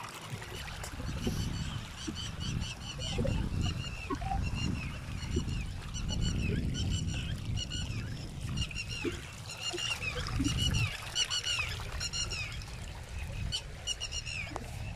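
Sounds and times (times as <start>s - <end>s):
wind rumbling on microphone: 0.0s - 14.9s.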